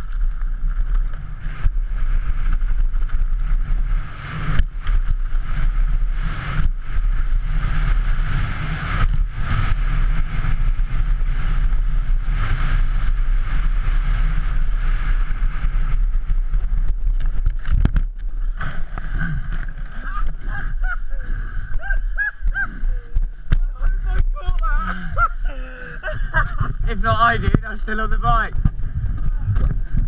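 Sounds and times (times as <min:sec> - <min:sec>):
bike tyres rumbling over dirt: 0:00.0 - 0:30.0
wind buffeting microphone: 0:00.0 - 0:30.0.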